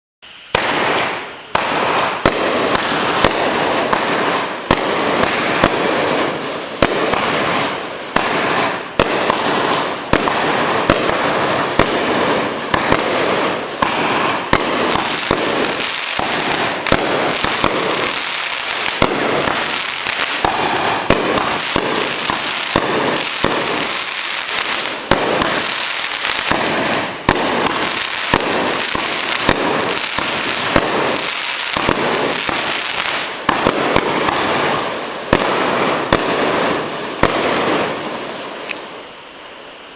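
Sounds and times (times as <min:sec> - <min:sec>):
firework shots hissing: 0:00.2 - 0:39.9
firework pops: 0:00.5 - 0:34.7, 0:38.6 - 0:38.9.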